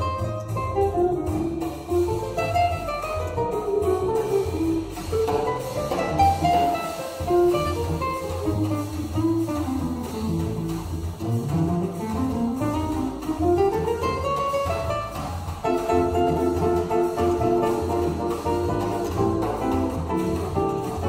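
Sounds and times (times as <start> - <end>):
acoustic guitar: 0.0 - 21.0
cello: 0.0 - 21.0
drum kit: 0.0 - 21.0.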